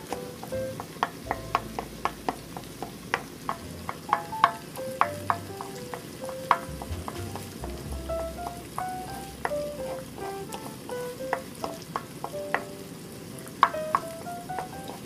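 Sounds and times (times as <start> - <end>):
spatula tapping and scraping pan: 0.0 - 7.7, 8.4 - 12.8, 13.6 - 15.0
eggs sizzling: 0.0 - 15.0.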